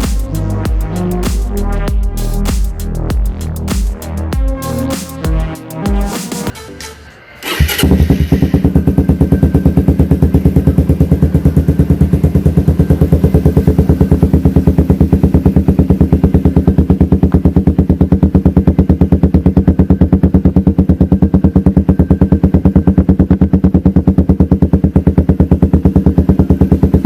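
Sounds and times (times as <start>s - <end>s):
motorcycle engine idling: 0.0s - 6.1s, 7.5s - 27.0s.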